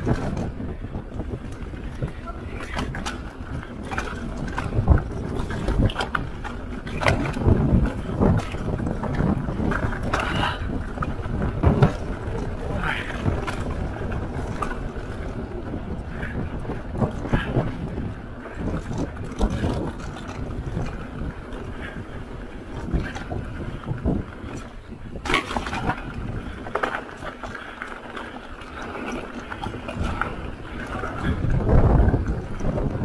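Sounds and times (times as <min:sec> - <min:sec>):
bike knocks and rattles: 0:00.0 - 0:33.0
bike tyres rumbling on dirt: 0:00.0 - 0:33.0
wind on microphone: 0:00.0 - 0:33.0.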